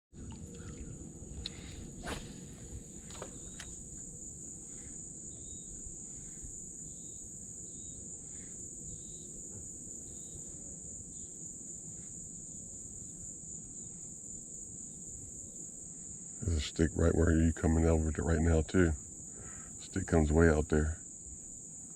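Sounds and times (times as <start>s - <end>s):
cicada chorus droning: 0.2s - 21.9s.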